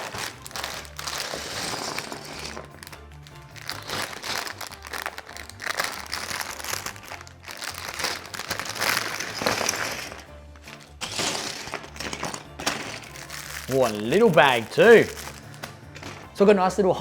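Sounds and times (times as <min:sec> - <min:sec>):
plastic bags crinkling: 0:00.0 - 0:16.2.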